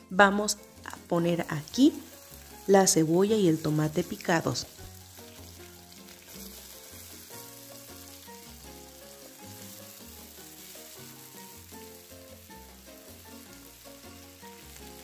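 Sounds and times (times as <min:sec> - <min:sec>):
soft background tune: 0:00.0 - 0:15.0
vegetables sizzling in hot oil: 0:00.6 - 0:15.0.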